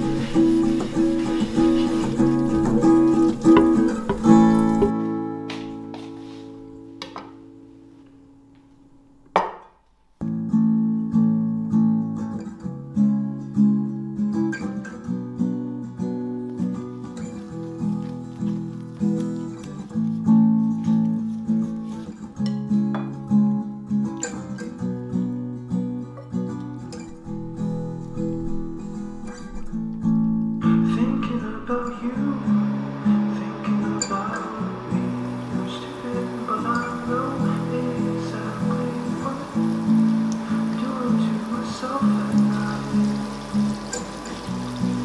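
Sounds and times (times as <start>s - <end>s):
acoustic guitar music: 0.0s - 45.0s.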